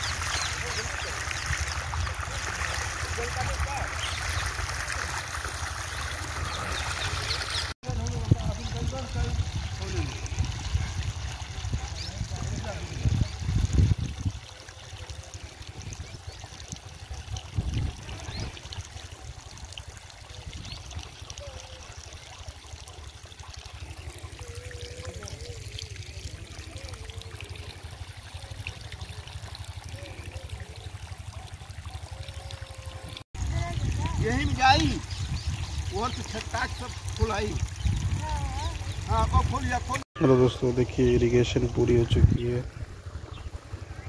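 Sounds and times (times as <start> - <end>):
water trickling along furrow: 0.0 - 44.0.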